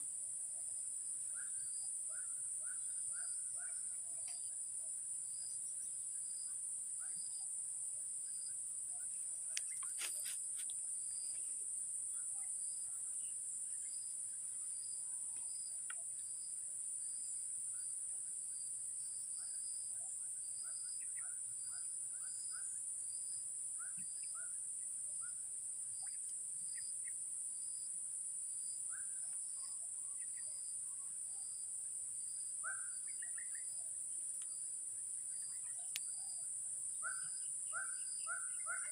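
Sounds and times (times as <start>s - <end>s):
insect chorus drone: 0.0s - 38.9s.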